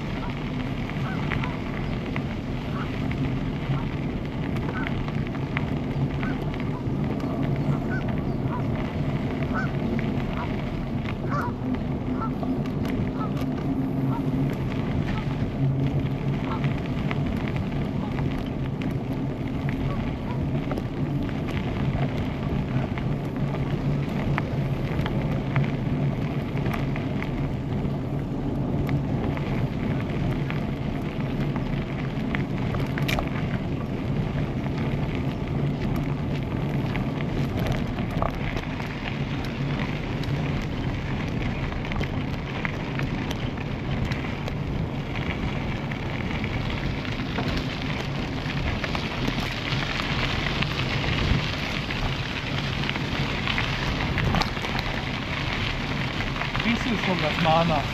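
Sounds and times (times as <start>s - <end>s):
bicycle tyres crackling on path: 0.0s - 57.9s
wind noise on microphone: 0.0s - 57.9s.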